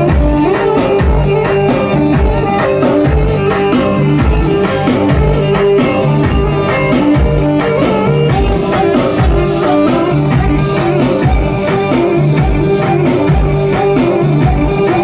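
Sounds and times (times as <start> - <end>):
dance music playing loudly: 0.0 - 15.0
steady drum beat: 0.0 - 15.0
melodic instrument line: 0.5 - 15.0.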